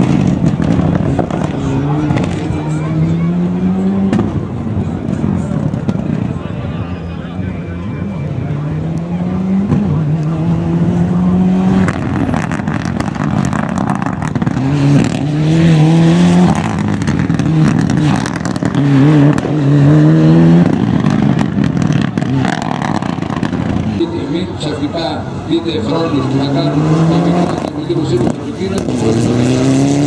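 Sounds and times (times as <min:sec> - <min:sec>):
car engine accelerating hard: 0:00.0 - 0:30.0
exhaust crackles: 0:00.0 - 0:30.0.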